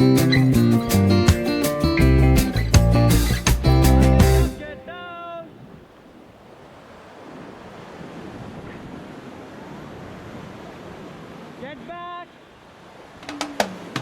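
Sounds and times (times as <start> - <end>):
rushing river water: 1.3 - 14.0.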